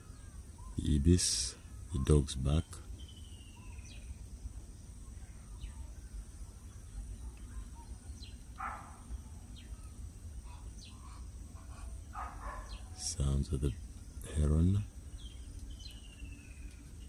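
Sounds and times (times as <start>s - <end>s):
bird calls: 0.0s - 17.0s
insect drone: 0.0s - 17.0s.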